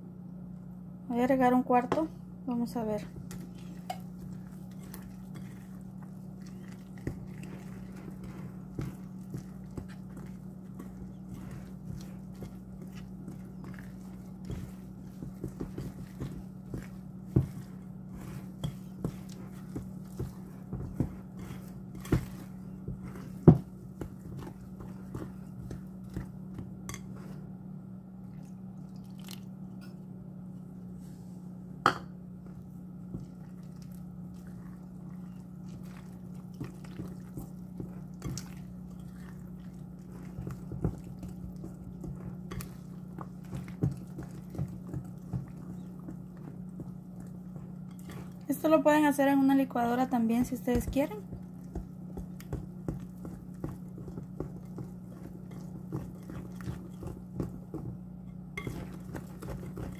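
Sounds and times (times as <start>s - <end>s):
steady low hum: 0.0s - 59.9s
whisk beating batter: 2.8s - 27.6s, 32.4s - 59.9s.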